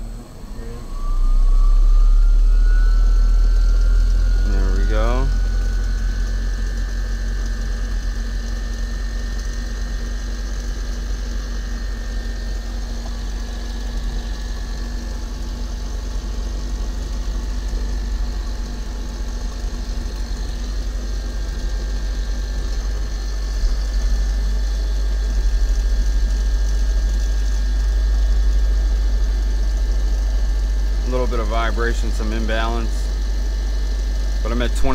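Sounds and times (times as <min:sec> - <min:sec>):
electric motor whine: 0:00.0 - 0:34.9.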